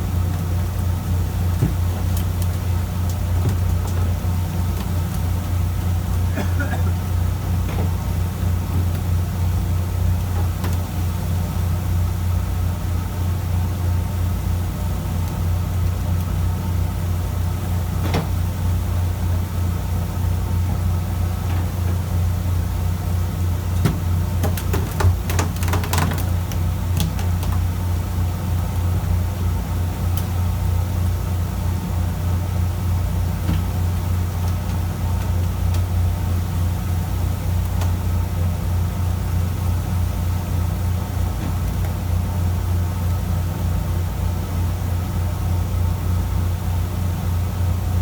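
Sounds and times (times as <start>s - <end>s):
boat engine humming: 0.0s - 48.0s.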